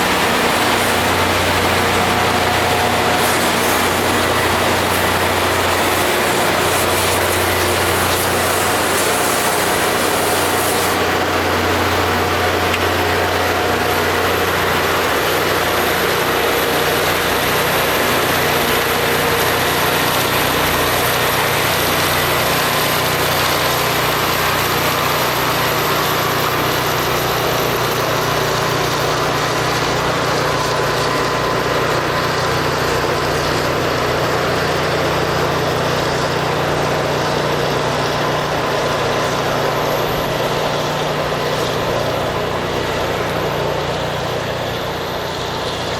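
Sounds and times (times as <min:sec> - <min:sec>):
loud high hiss: 0:00.0 - 0:45.6
rail grinder engines running: 0:00.0 - 0:45.9.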